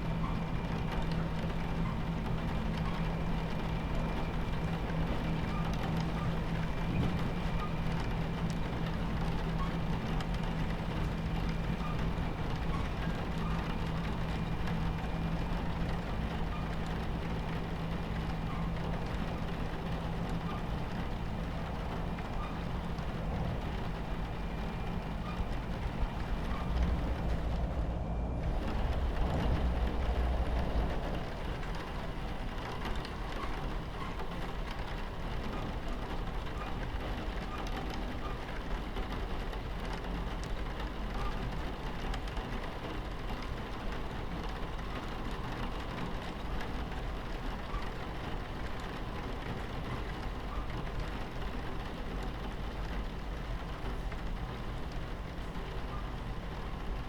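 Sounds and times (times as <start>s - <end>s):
rain pattering on window: 0.0s - 57.0s
train rumble from inside carriage: 0.0s - 57.0s.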